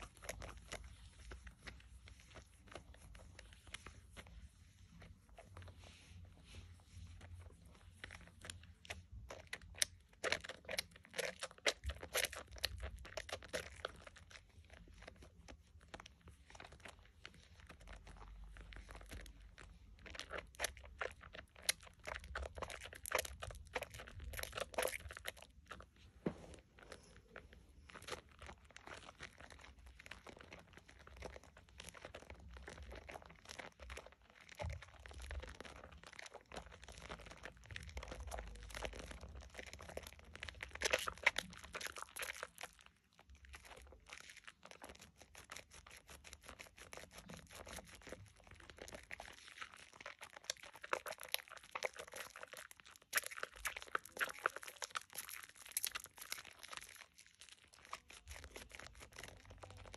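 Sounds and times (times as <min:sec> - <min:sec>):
soap lather squishing: 0:00.0 - 0:59.9.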